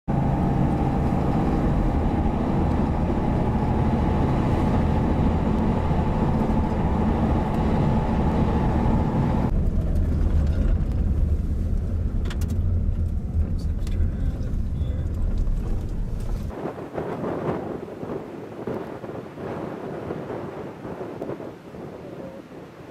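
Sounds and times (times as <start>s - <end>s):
vehicle low rumble: 0.1s - 22.6s
storm wind noise: 0.1s - 22.9s.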